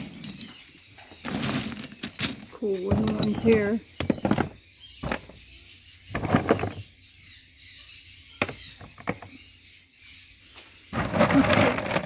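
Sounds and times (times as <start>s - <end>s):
faint background bird chatter: 0.0s - 12.0s.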